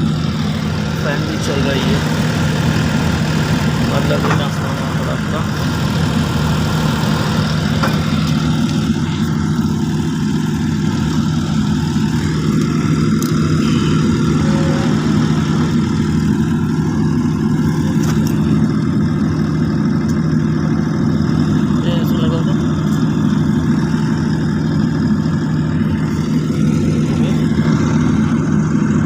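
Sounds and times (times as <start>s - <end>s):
cooling fan humming: 0.0s - 29.0s.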